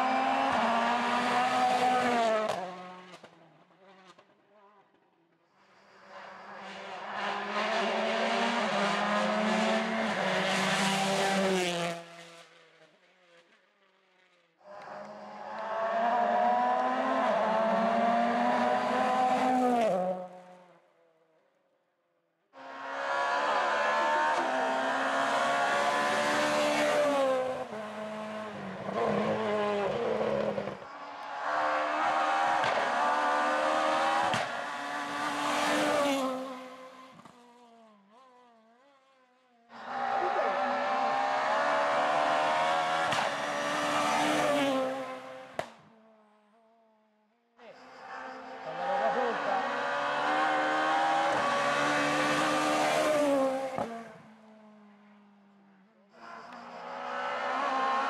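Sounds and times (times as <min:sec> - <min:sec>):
rally car engines revving past: 0:00.0 - 0:04.8, 0:05.9 - 0:13.5, 0:14.6 - 0:20.8, 0:22.6 - 0:46.2, 0:47.8 - 0:55.2, 0:56.1 - 0:58.0.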